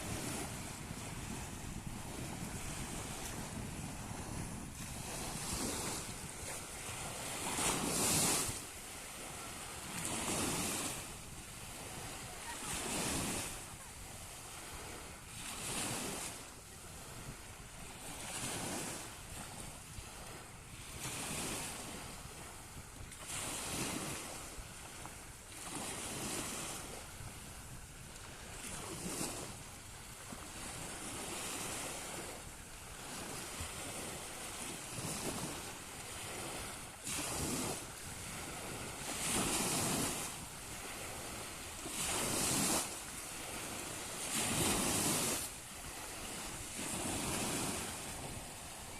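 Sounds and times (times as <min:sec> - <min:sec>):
waves washing on shore: 0:00.0 - 0:48.9
wind on microphone: 0:00.0 - 0:48.9.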